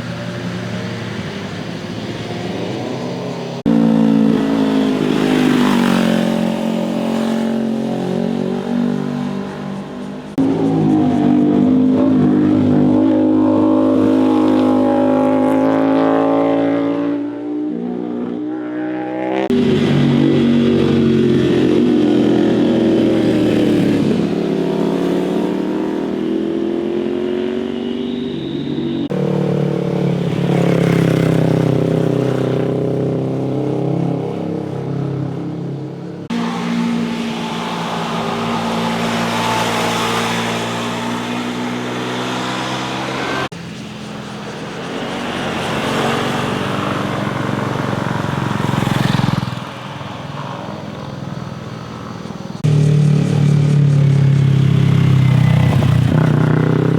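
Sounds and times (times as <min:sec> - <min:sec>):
motorcycle engines revving: 0:00.0 - 0:56.9.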